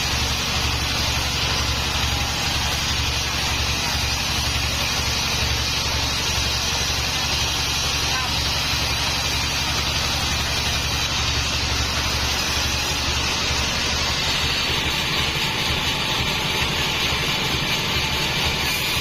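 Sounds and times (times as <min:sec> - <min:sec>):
band sawmill engine drone: 0:00.0 - 0:19.0.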